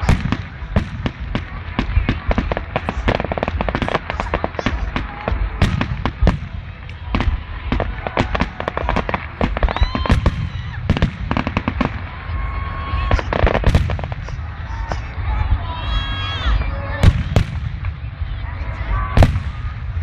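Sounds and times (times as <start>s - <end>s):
fireworks bangs and pops: 0.0s - 15.5s, 16.4s - 20.0s.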